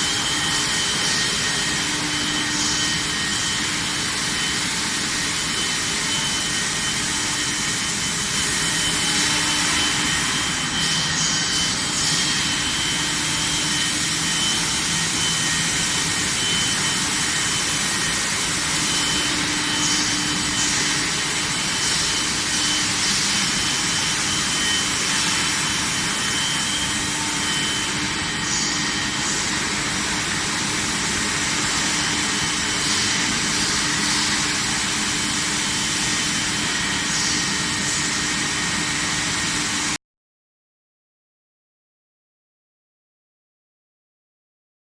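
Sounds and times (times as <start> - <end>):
loud machine hiss: 0.0 - 40.0.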